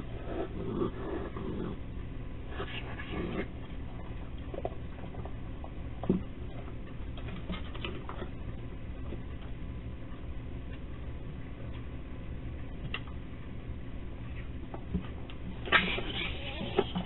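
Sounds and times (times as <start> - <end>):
raccoons scrabbling at bowl: 0.0 - 11.9, 14.2 - 17.0.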